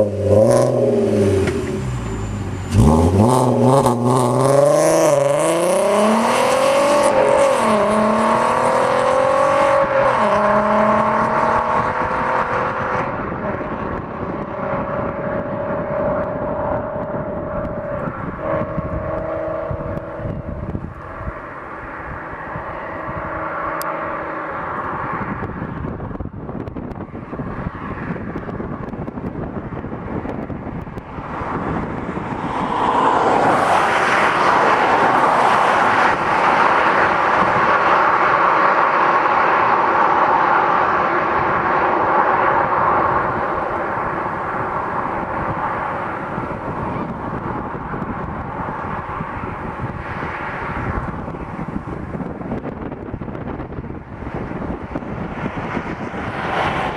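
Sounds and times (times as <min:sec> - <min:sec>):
approaching vehicle: 0:00.0 - 0:56.9
car accelerating and revving: 0:00.0 - 0:56.9.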